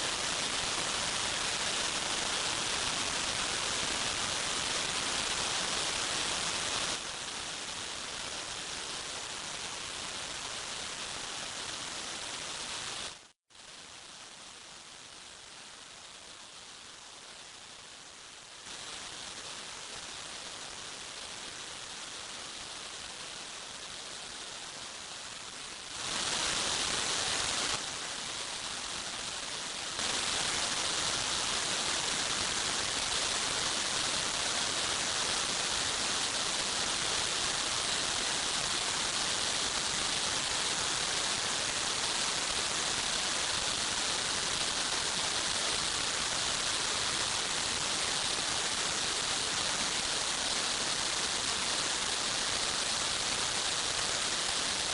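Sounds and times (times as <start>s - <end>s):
steady hiss: 0.0s - 54.9s.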